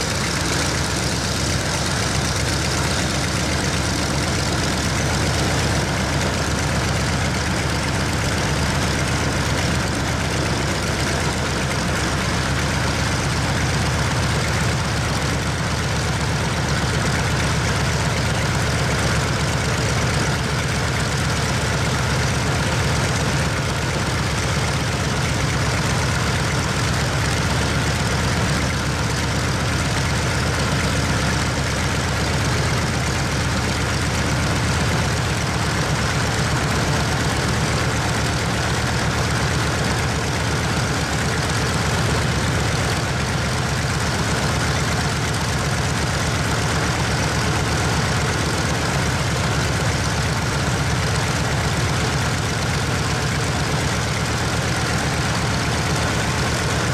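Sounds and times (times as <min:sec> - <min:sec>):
radial aircraft engine running: 0:00.0 - 0:56.9.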